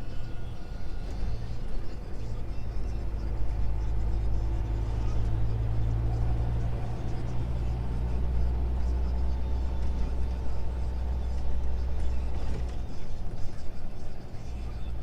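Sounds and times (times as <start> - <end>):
truck diesel engine and tyre drone: 0.0 - 15.0.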